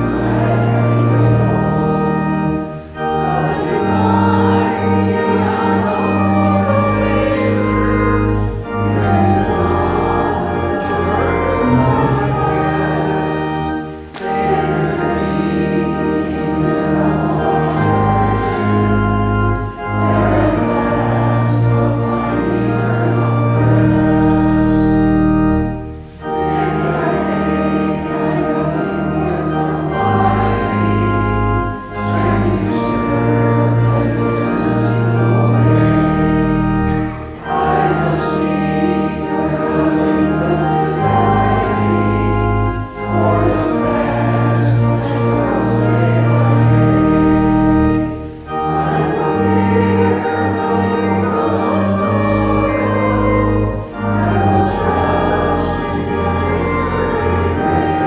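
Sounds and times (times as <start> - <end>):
church organ playing chords: 0.0 - 58.0.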